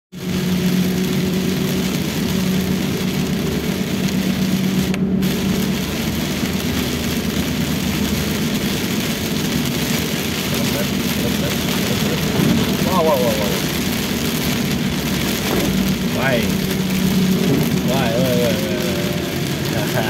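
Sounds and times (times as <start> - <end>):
low engine hum: 0.1 - 20.0
rain and wet road hiss: 0.1 - 20.0.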